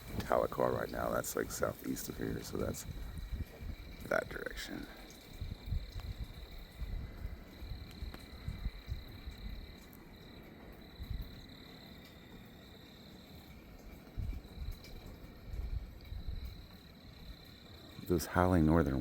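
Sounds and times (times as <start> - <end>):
wind buffeting microphone: 0.0 - 11.6, 13.7 - 19.0.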